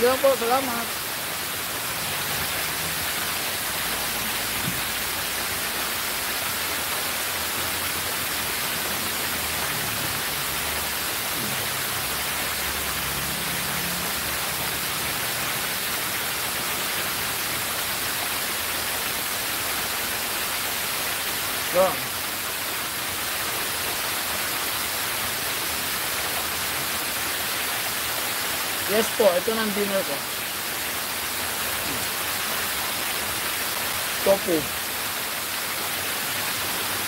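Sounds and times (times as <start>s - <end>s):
water pouring down fountain steps: 0.0s - 37.0s.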